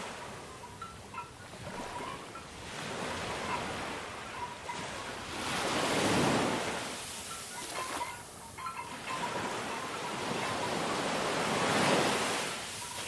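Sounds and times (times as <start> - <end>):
sea waves washing in: 1.6 - 13.0.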